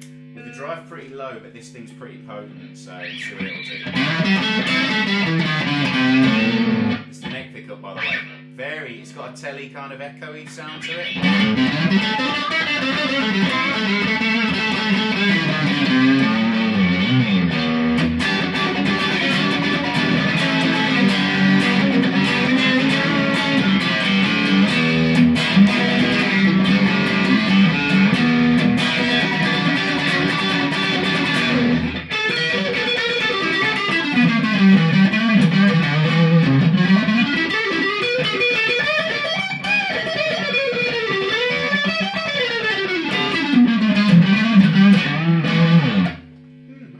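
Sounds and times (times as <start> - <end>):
overdriven electric guitar lead: 0.0 - 1.3, 2.1 - 9.3, 10.3 - 46.8.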